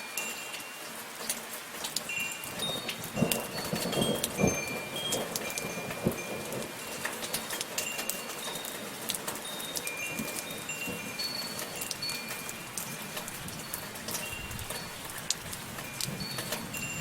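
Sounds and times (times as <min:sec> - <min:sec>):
metal wind chimes ringing: 0:00.0 - 0:01.1, 0:02.0 - 0:17.0
soft rain pattering: 0:00.0 - 0:17.0.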